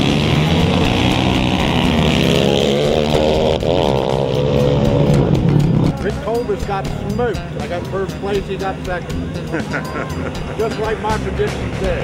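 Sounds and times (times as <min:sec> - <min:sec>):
atv engines accelerating: 0:00.0 - 0:12.0.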